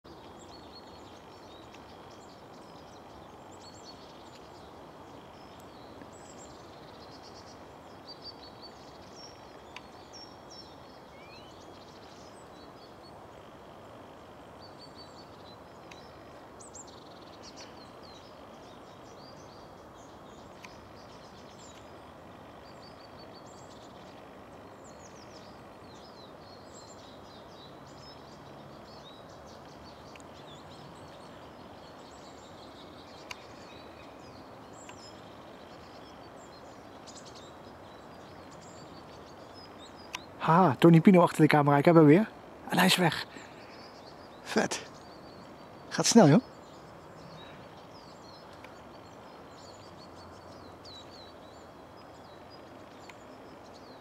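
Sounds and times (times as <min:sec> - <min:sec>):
small songbirds singing: 0:00.0 - 0:54.0
low background rush: 0:00.1 - 0:54.0.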